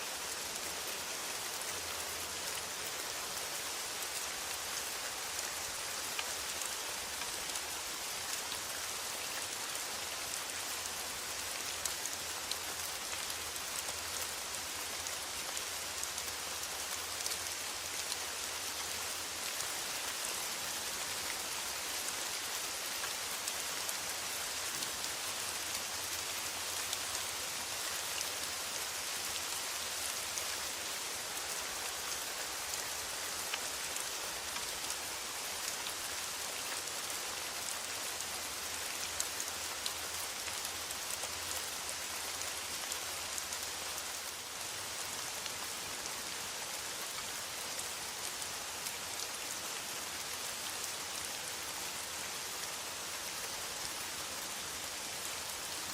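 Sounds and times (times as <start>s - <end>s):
rain on a metal roof: 0.0s - 55.9s.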